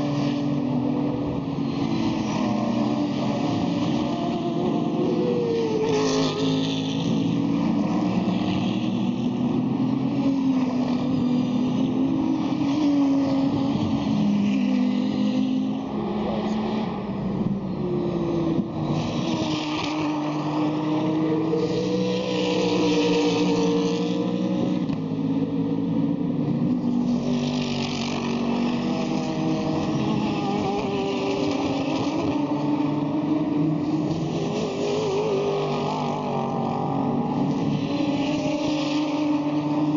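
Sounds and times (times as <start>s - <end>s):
race car engines revving: 0.0s - 39.9s.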